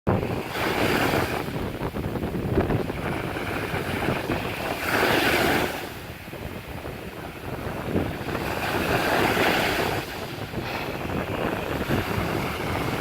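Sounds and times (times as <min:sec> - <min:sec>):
sea waves breaking on shore: 0:00.1 - 0:13.0
wind rumble on microphone: 0:00.1 - 0:13.0.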